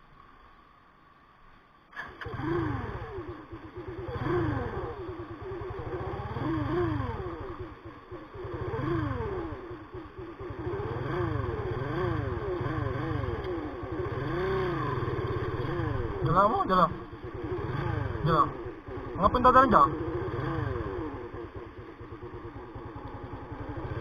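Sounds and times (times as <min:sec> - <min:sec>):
motorcycle engine revving: 0:01.9 - 0:24.0.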